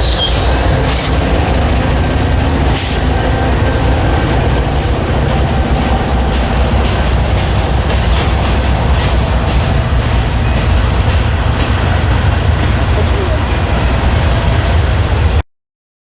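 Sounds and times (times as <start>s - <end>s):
freight train cars rumbling past: 0.0s - 15.4s.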